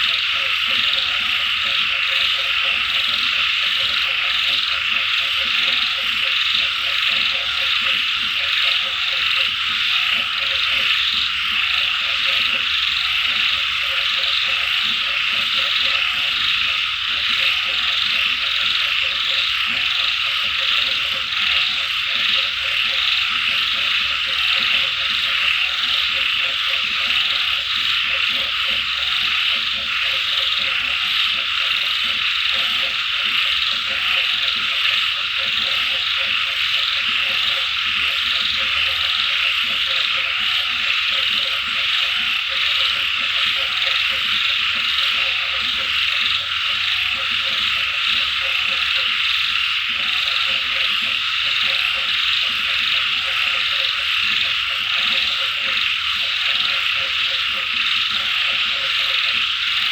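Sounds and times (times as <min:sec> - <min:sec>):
frogs croaking: 0:00.0 - 0:59.9
high-pitched insect chorus: 0:00.0 - 0:59.9.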